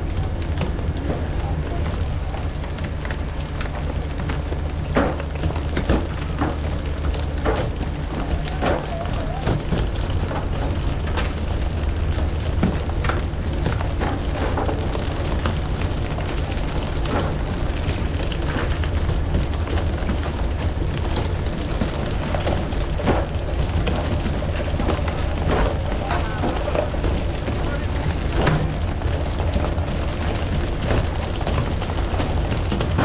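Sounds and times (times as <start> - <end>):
boat engine running: 0.0 - 33.0
knocks and splashes: 0.0 - 33.0.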